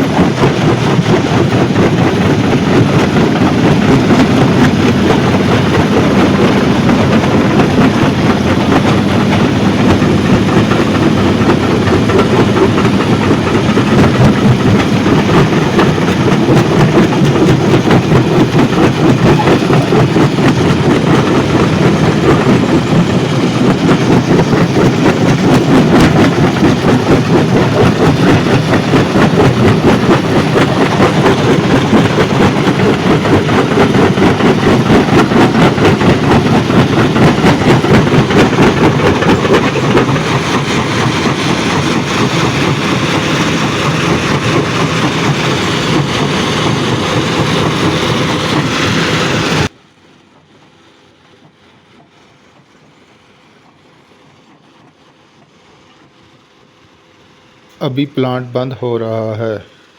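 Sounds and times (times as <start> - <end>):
machinery rumble: 0.0 - 54.6, 57.3 - 59.9.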